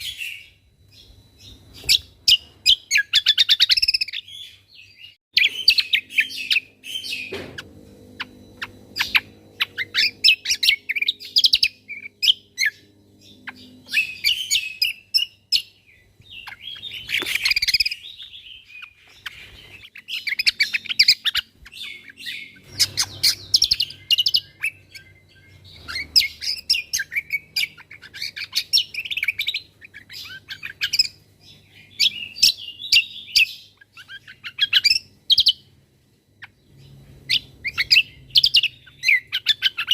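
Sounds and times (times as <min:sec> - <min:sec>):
bird chirps and trills: 0:00.0 - 0:35.8, 0:36.4 - 0:39.9
faint low hum: 0:00.0 - 0:39.9.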